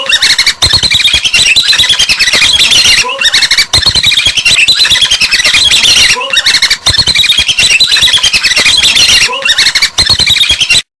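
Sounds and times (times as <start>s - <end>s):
birds chattering and squawking: 0.0s - 10.9s.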